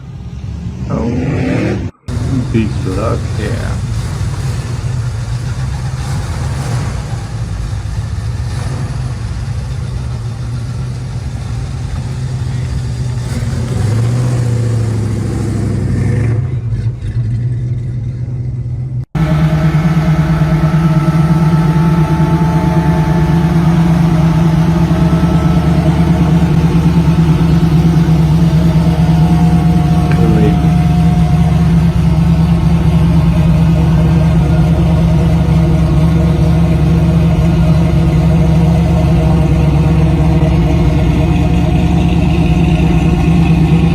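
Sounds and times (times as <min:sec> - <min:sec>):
car engine rumbling and revving: 0:00.0 - 0:43.9
hot rod engine running: 0:00.0 - 0:43.9.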